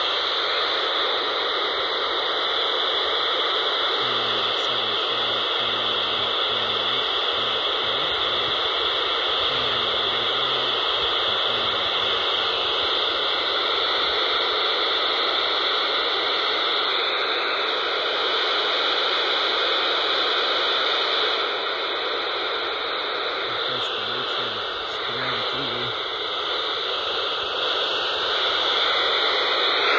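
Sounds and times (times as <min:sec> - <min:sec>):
radio static hiss: 0:00.0 - 0:29.9.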